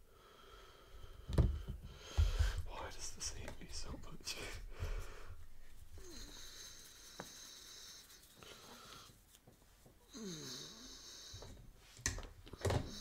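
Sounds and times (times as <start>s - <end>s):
person breathing: 0.0s - 9.4s, 10.0s - 11.7s.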